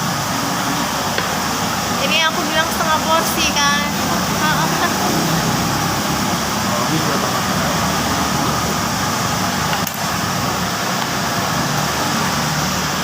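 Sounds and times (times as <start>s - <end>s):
loud rushing background noise: 0.0s - 13.0s.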